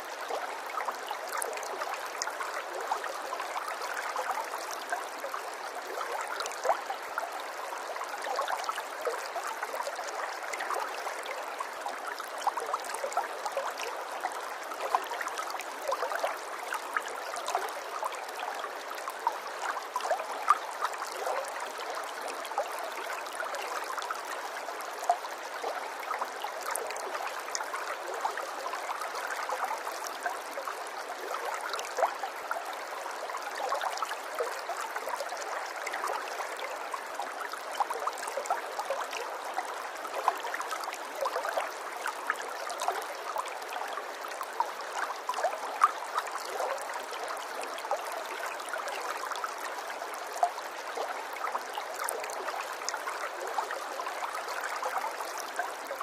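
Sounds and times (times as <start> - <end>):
stream trickling and gurgling: 0.0 - 56.0.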